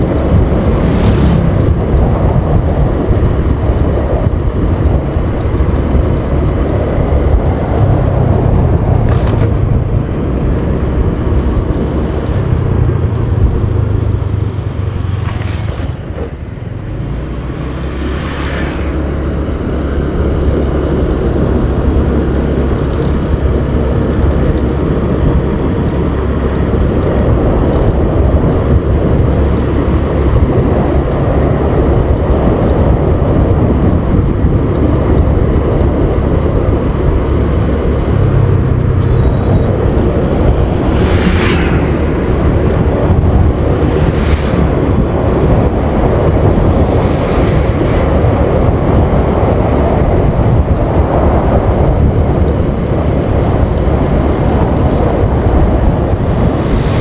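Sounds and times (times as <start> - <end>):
motorbike engine and tyres: 0.0 - 57.0
wind rushing over microphone: 0.0 - 57.0.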